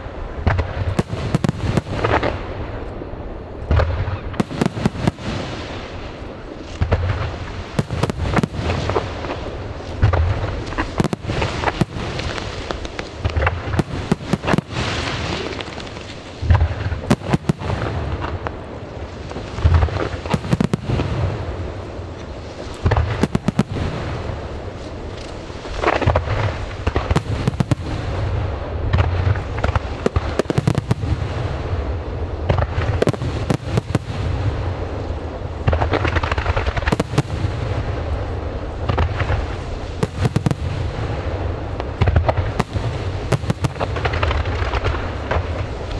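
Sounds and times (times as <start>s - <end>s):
fireworks booming and crackling: 0.0s - 45.9s
low rumble of explosions: 0.0s - 45.9s.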